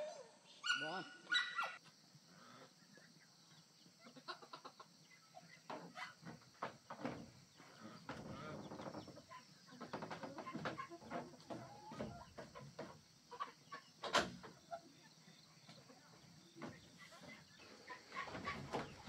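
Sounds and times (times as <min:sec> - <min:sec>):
chickens clucking: 0:02.4 - 0:19.0.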